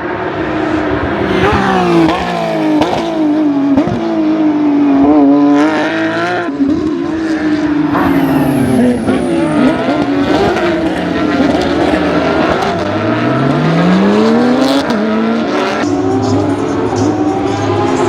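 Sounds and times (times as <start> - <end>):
race car engines passing: 0.0 - 5.3, 7.7 - 18.0
engine accelerating: 0.0 - 5.8, 7.5 - 18.0.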